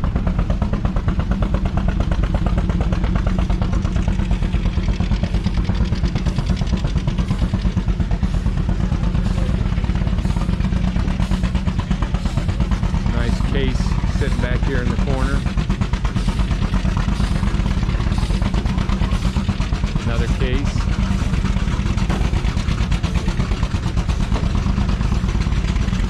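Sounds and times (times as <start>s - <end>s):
steam traction engine running: 0.0s - 26.0s.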